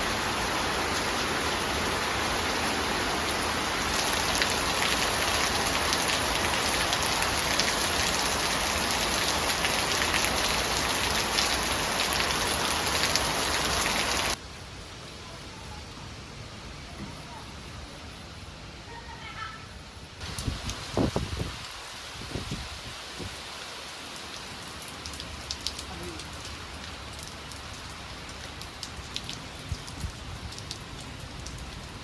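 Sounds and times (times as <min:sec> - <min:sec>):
steady rain patter: 0:00.0 - 0:32.0.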